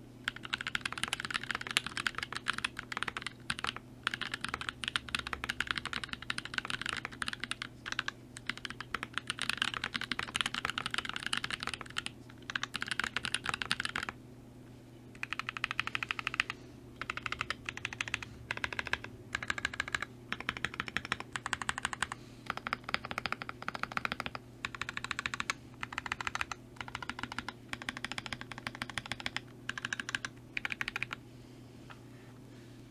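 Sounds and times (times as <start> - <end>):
typing on mechanical keyboard: 0.3 - 14.2, 15.2 - 31.2.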